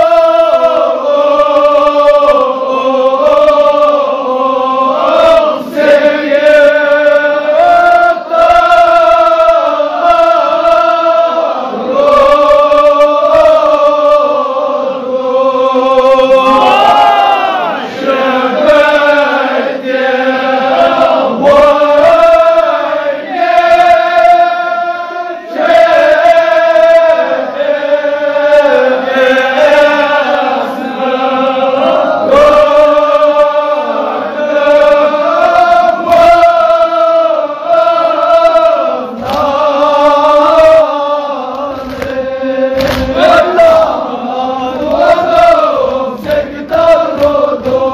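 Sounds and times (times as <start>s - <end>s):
men chanting in held notes: 0.0s - 47.9s.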